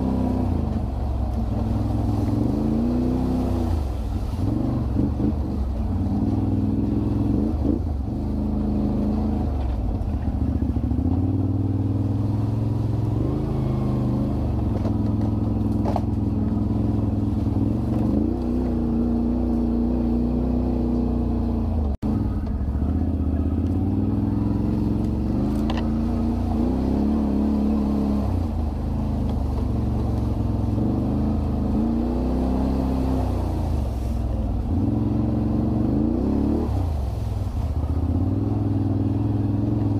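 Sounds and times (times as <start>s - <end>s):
quad bike engine revving: 0.0s - 0.8s, 1.4s - 34.0s, 34.6s - 37.2s.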